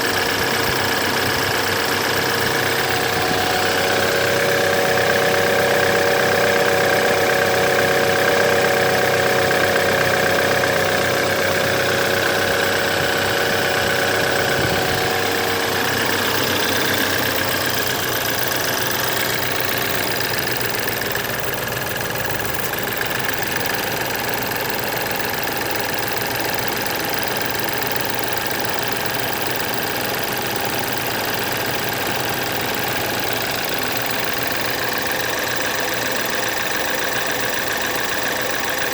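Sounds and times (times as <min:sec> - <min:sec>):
car engine running: 0:00.0 - 0:38.9
steady engine whine: 0:00.0 - 0:38.9.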